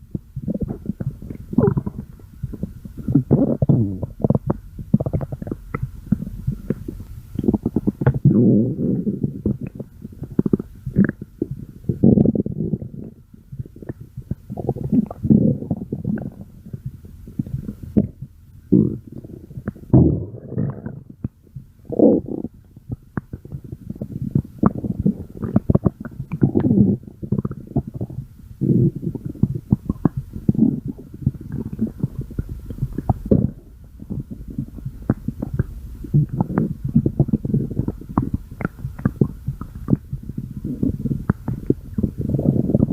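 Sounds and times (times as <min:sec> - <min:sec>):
stomach growling: 0:00.0 - 0:42.9.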